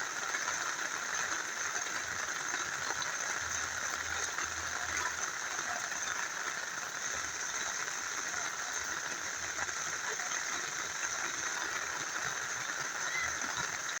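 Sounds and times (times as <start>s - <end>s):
small river flowing: 0.0s - 14.0s
steady rain falling: 0.0s - 14.0s.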